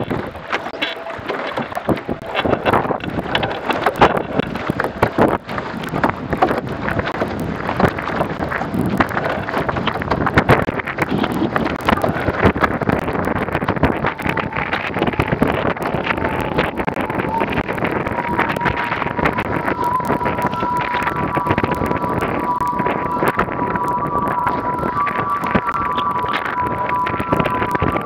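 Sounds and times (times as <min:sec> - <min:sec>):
water slapping against hull: 0:00.0 - 0:28.0
wind buffeting microphone: 0:00.0 - 0:28.0.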